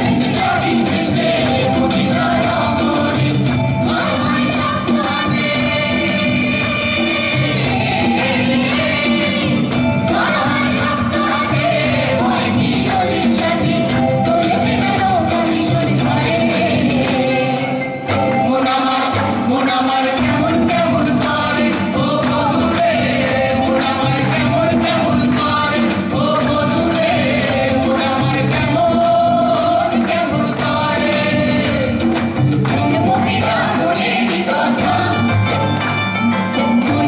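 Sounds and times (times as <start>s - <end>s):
steady percussion: 0.0s - 37.0s.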